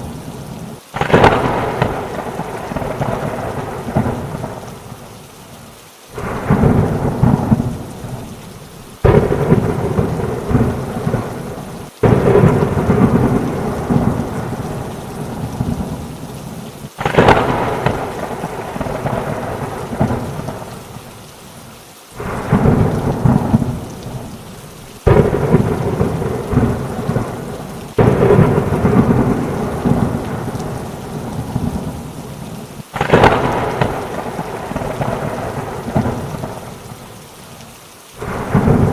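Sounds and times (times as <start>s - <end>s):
steady rain: 0.0s - 38.9s
thunderclaps: 1.0s - 4.9s, 6.2s - 8.4s, 9.0s - 16.1s, 16.9s - 20.8s, 22.2s - 24.4s, 25.0s - 32.4s, 33.0s - 36.8s, 38.2s - 38.9s.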